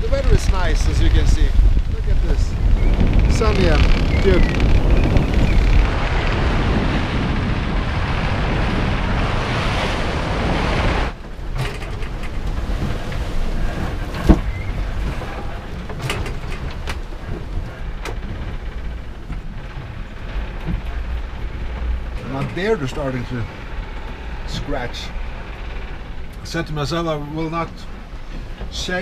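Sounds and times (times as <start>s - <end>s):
rushing sea water: 0.0s - 29.0s
sea rumbling against hull: 0.0s - 29.0s
wind: 0.0s - 29.0s
wind buffeting microphone: 0.0s - 29.0s.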